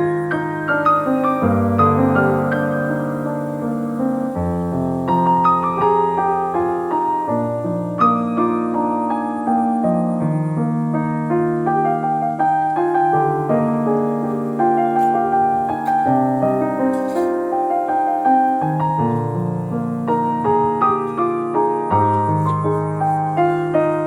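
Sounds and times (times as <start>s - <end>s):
soft piano chords: 0.0s - 24.0s.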